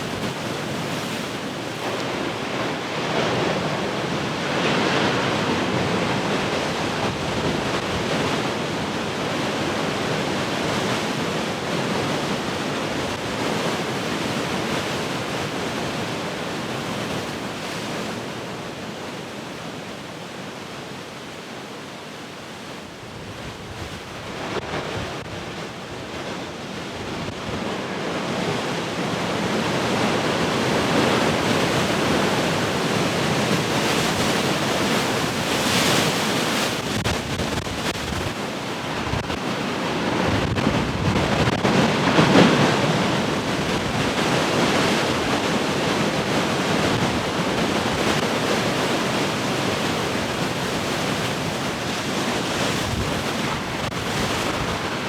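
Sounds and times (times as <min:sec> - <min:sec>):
ocean waves breaking: 0:00.0 - 0:18.5, 0:24.1 - 0:55.0.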